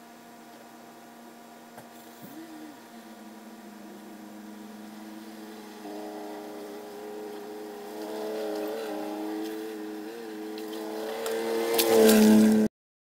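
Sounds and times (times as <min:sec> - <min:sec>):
car engine running: 0:00.0 - 0:12.7.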